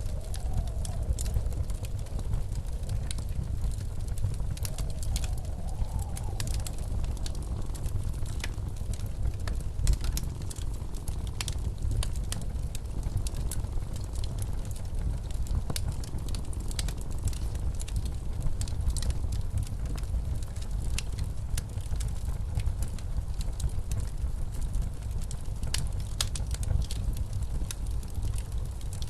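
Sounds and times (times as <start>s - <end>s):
blizzard wind rumble: 0.0s - 29.0s
wood fire crackling and popping: 0.0s - 29.0s.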